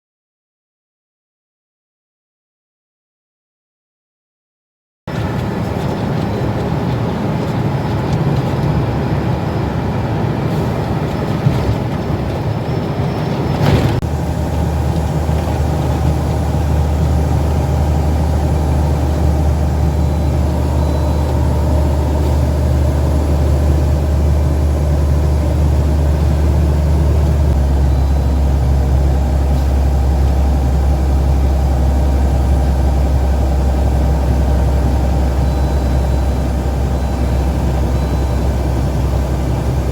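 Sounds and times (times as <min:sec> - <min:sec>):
truck engine humming: 0:05.1 - 0:39.9.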